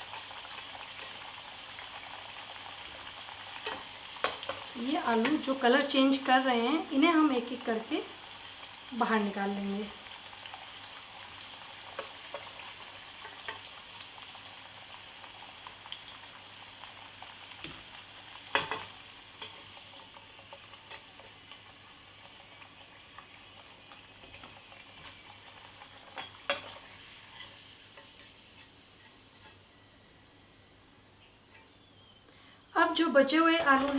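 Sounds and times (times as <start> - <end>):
potatoes sizzling in hot oil: 0.0 - 33.9.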